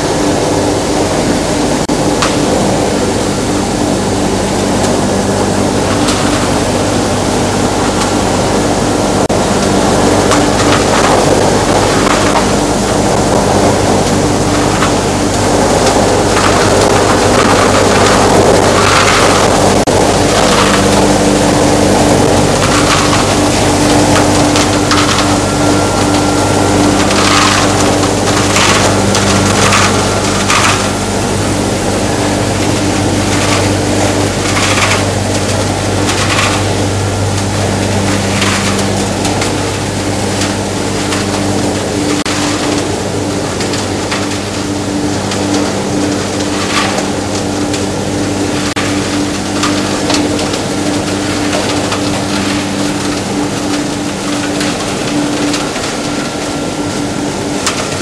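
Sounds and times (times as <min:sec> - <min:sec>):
motor hum: 0:00.0 - 0:58.0.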